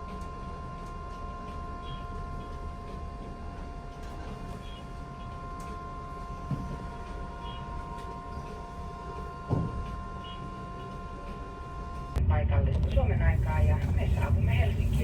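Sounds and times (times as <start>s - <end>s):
ship machinery rumble and hum: 0.0s - 15.0s.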